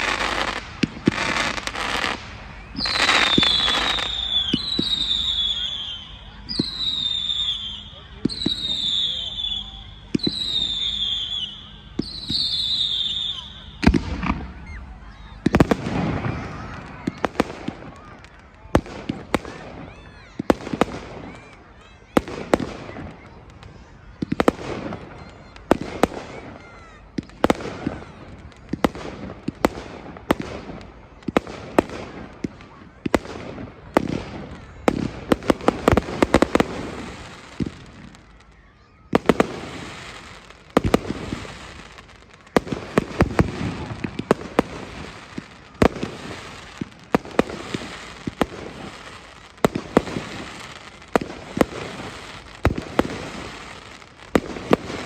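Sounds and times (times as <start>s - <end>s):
fireworks bangs with crackle: 0.0s - 55.0s.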